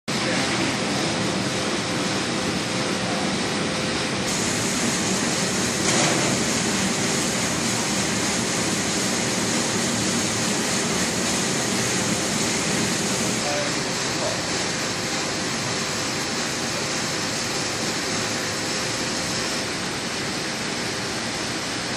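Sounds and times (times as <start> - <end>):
machine hissing and humming: 0.1 - 21.9.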